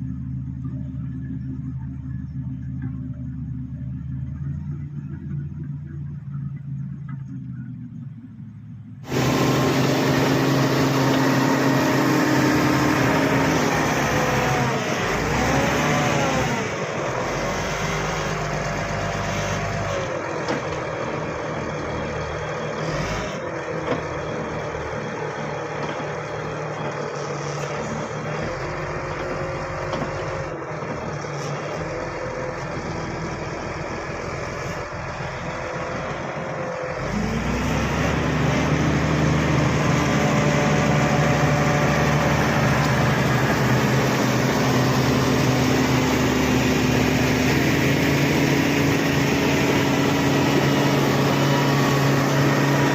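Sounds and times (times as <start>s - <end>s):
bulldozer diesel engine: 0.0s - 52.9s.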